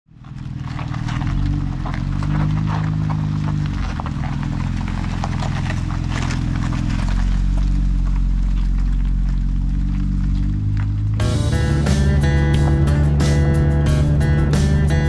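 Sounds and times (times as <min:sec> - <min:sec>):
low engine rumble: 0:00.1 - 0:15.0
tyres crunching on gritty pavement: 0:00.1 - 0:15.0.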